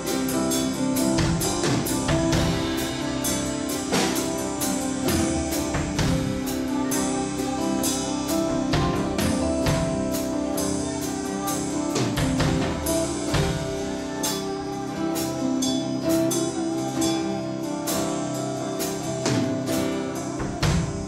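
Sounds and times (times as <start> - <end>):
cymbal hits: 0.0 - 21.0
drum kit beat: 0.0 - 21.0
keyboard: 0.0 - 21.0
strummed guitars: 0.0 - 21.0.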